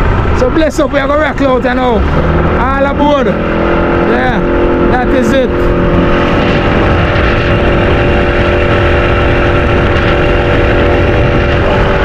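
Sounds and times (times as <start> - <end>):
boat motor running: 0.0 - 12.0
wind buffeting microphone: 0.0 - 12.0.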